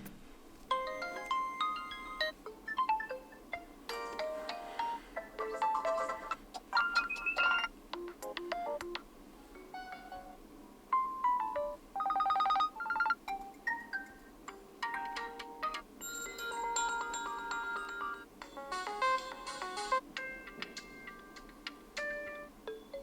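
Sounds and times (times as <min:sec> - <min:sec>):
electronic ringtone melodies: 0:00.7 - 0:09.0, 0:11.0 - 0:23.0.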